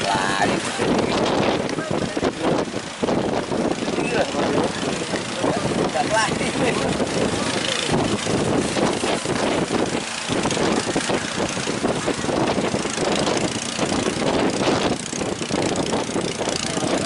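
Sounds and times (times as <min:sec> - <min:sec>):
boat engine running: 0:00.0 - 0:17.0
constant rushing noise: 0:00.0 - 0:17.0.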